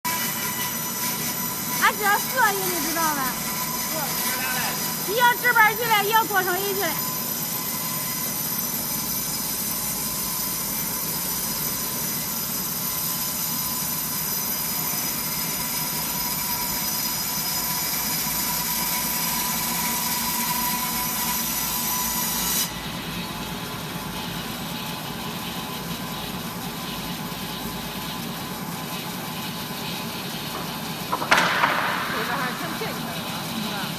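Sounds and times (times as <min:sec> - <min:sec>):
sawmill machine whining: 0:00.1 - 0:33.9.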